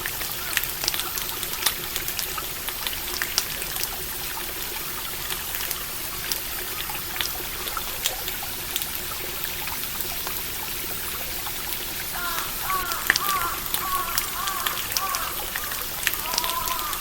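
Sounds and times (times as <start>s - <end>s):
stream flowing: 0.0s - 17.0s
campfire crackling and popping: 0.1s - 17.0s.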